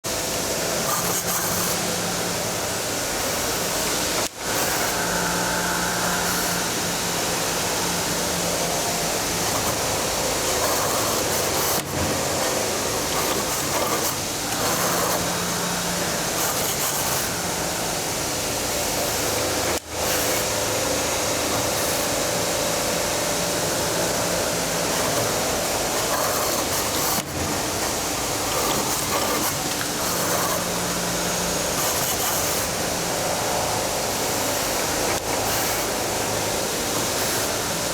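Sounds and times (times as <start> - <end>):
servo hums: 0.1 - 37.9
wire forming machine hissing: 0.1 - 37.9.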